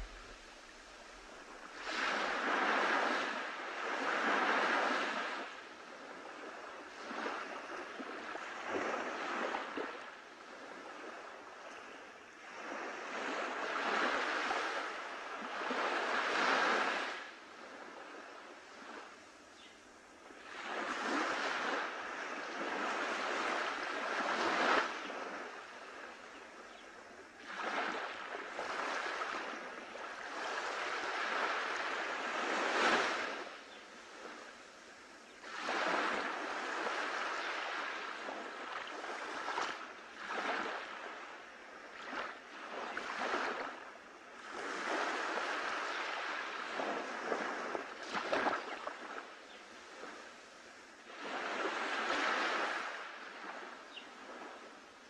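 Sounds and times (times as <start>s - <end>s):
surf washing up a sandy beach: 0.0s - 55.0s.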